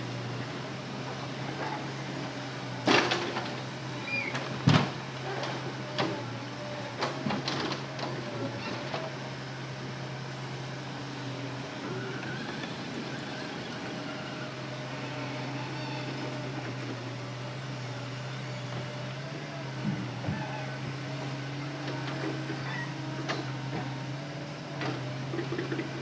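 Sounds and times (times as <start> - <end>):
excavator engine humming: 0.0 - 26.0.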